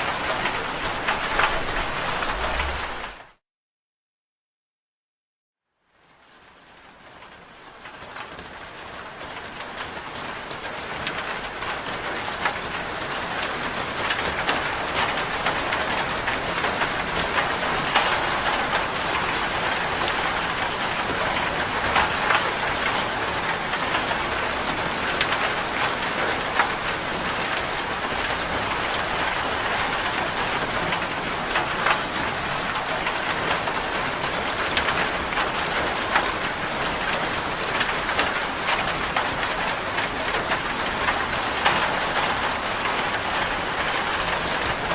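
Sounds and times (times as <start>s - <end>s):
steady rain patter: 0.0s - 3.4s, 5.7s - 44.9s.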